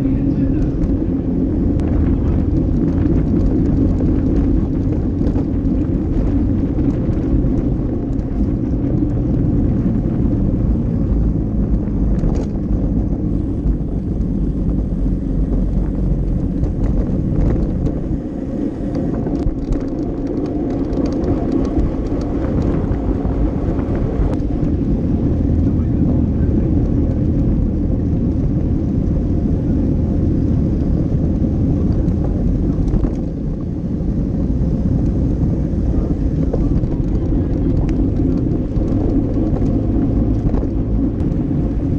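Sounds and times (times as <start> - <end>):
tyres rumbling on brick paving: 0.0 - 41.9
wind rushing over camera: 0.0 - 41.9.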